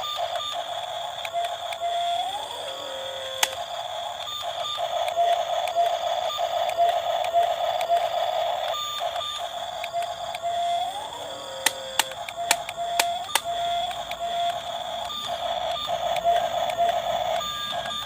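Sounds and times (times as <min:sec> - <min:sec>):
constant high tone: 0:00.0 - 0:18.0
small electric motors whining: 0:00.0 - 0:18.0
sharp clicks: 0:00.3 - 0:08.2, 0:09.7 - 0:10.5, 0:11.5 - 0:18.0.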